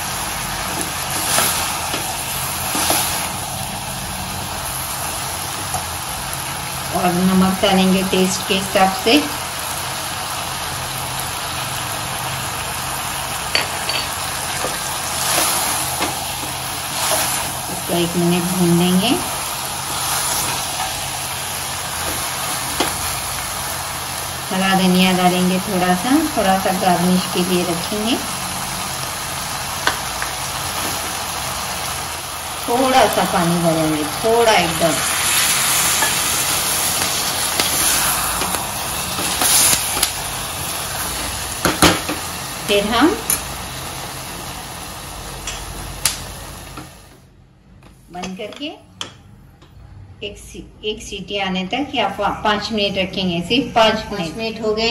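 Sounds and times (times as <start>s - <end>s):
beans sizzling in oil: 0.0s - 47.2s.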